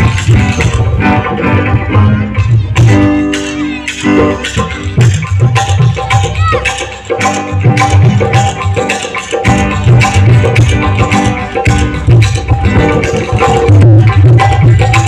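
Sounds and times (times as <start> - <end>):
guitar: 0.0 - 15.0
hand percussion beat: 0.0 - 15.0
live folk fusion band: 0.0 - 15.0.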